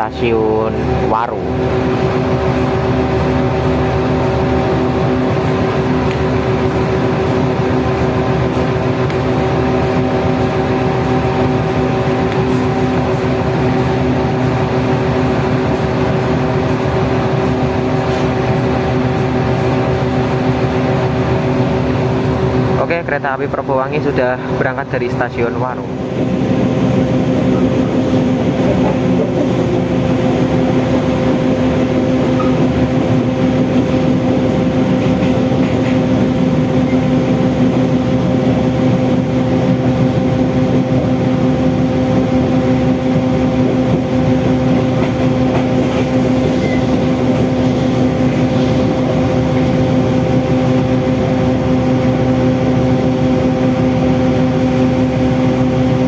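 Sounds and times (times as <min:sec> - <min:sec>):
constant hum: 0:00.0 - 0:56.0
train running drone: 0:00.0 - 0:56.0.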